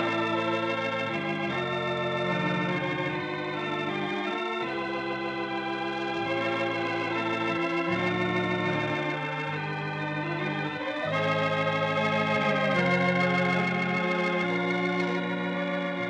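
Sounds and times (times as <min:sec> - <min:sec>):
organ music in held chords: 0:00.0 - 0:16.0.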